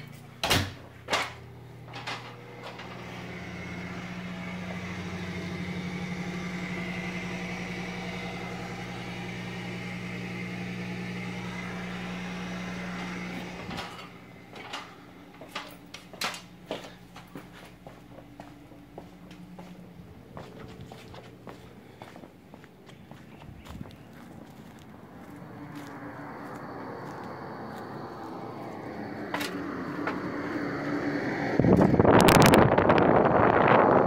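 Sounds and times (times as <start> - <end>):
fan motor humming: 0.0 - 34.0.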